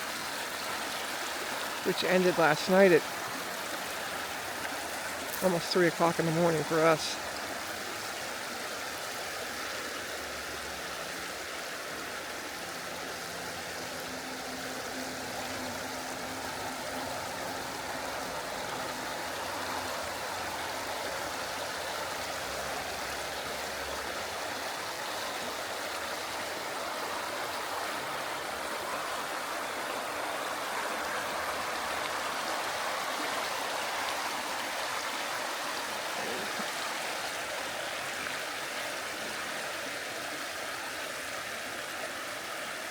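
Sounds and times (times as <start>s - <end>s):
stream babbling over rocks: 0.0s - 42.9s.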